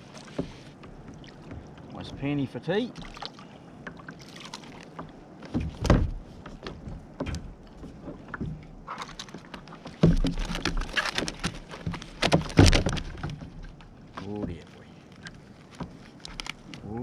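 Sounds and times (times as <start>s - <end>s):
knocks and thumps on a kayak: 0.0s - 3.2s, 4.8s - 16.7s.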